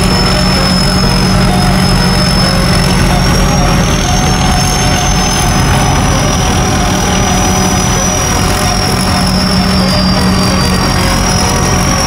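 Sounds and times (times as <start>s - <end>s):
high engine whine: 0.0s - 12.0s
large engine humming: 0.0s - 12.0s.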